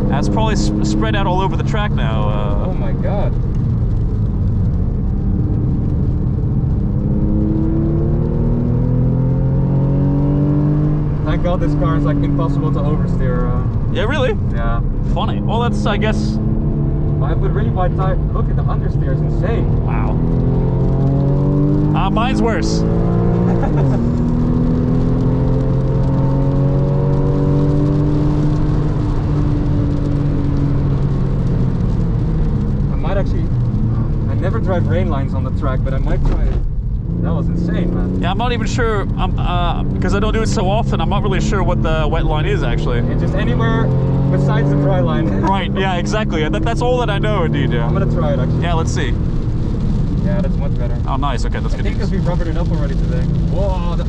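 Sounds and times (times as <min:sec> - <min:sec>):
car engine accelerating: 0:00.0 - 0:54.0
wet tyre and road noise: 0:00.0 - 0:54.0.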